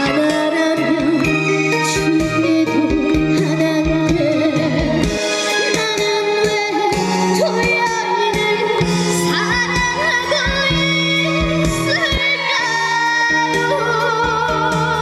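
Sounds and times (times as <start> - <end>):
trot song over loudspeakers: 0.0 - 15.0
woman singing: 0.0 - 15.0.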